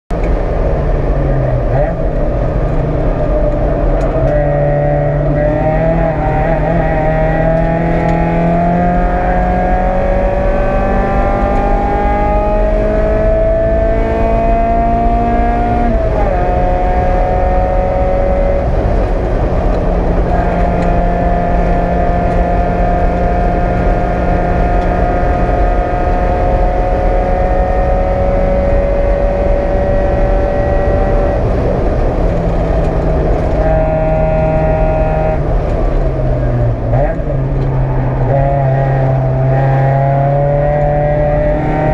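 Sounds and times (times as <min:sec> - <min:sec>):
race car engine revving: 0:00.2 - 0:41.9.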